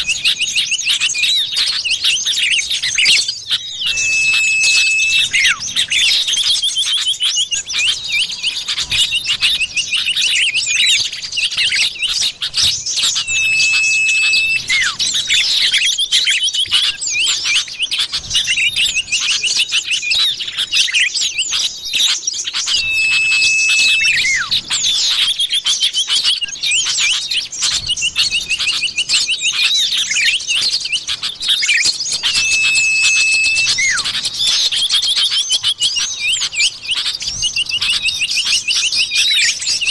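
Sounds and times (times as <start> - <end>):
bird chirps and trills: 0.0 - 39.9
long level bird whistle: 0.0 - 39.9.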